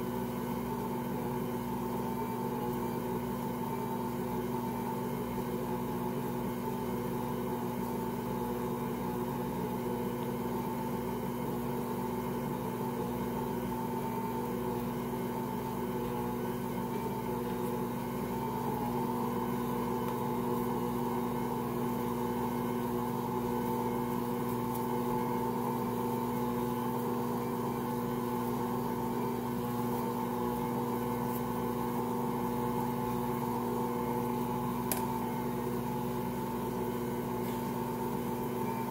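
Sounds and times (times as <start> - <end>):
stand mixer motor humming: 0.0 - 38.9.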